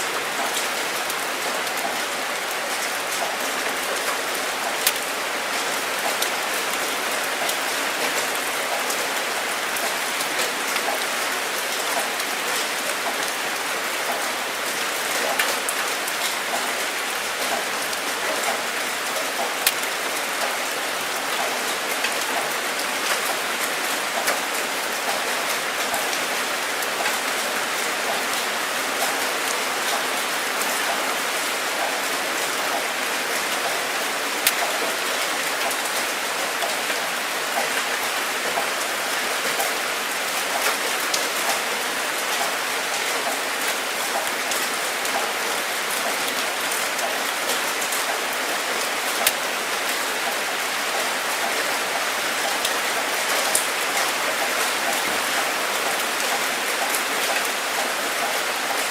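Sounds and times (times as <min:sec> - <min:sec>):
steady rain hiss: 0:00.0 - 0:58.9
raindrops ticking on a surface: 0:00.1 - 0:58.9.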